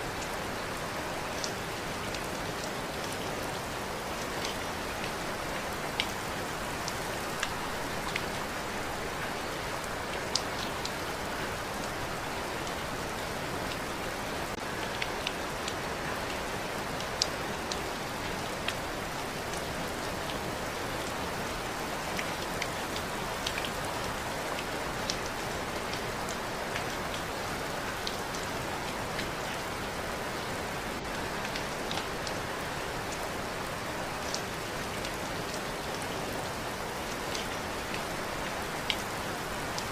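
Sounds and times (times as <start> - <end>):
steady rain hiss: 0.0 - 39.9
raindrops ticking on surface: 0.1 - 39.9.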